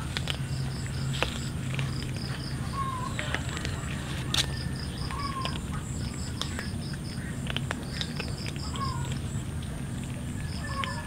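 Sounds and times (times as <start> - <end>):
cats crunching dry kibble: 0.0 - 11.0
low steady background noise: 0.0 - 11.0.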